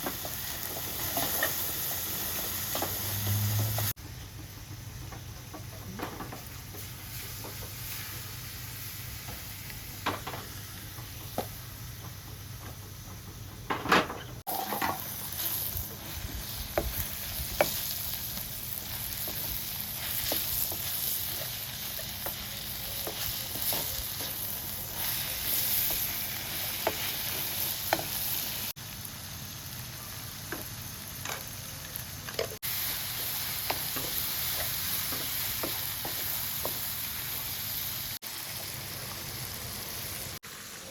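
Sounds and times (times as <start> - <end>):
food sizzling in a pan: 0.0 - 4.0, 5.9 - 12.0, 14.4 - 40.9.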